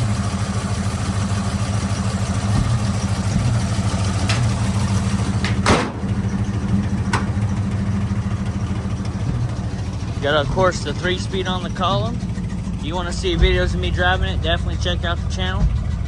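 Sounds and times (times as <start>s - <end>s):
pickup engine idling: 0.0s - 16.0s
sharp engine knock: 1.9s - 16.0s.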